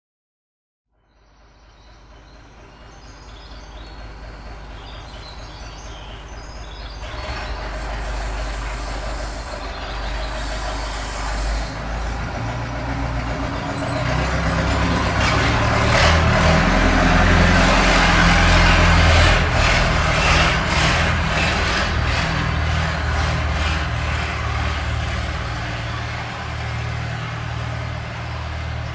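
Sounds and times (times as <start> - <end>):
diesel truck engine passing: 1.4 - 28.9.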